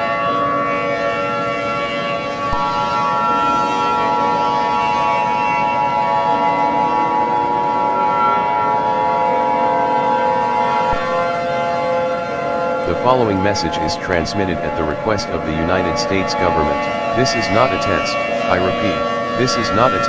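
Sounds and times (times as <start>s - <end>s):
emergency alert siren drone: 0.0s - 20.0s
rising siren wails: 0.8s - 20.0s.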